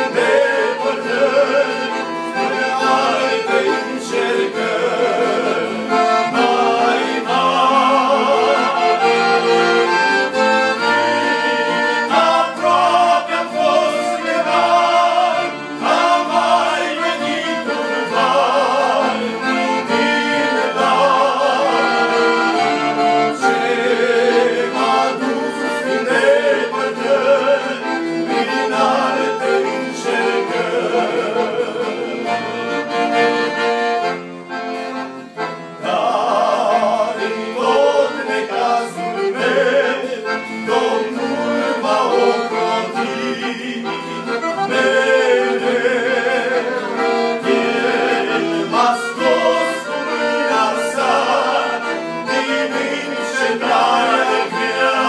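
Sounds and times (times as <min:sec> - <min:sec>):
men singing: 0:00.0 - 0:33.3, 0:35.8 - 0:55.0
accordion: 0:00.0 - 0:55.0.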